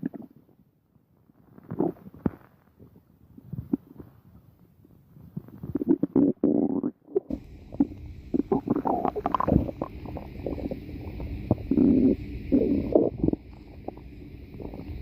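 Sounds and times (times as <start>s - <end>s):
stomach growling and gurgling: 0.0s - 0.6s, 1.2s - 15.0s.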